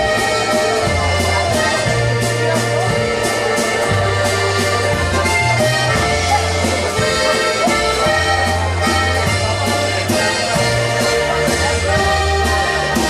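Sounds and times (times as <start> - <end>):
button box accordion: 0.0 - 13.0
deep bass notes: 0.0 - 13.0.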